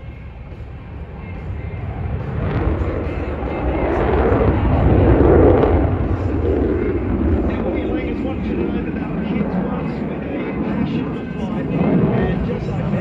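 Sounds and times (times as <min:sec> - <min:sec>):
aircraft engine roar: 0:00.0 - 0:13.0.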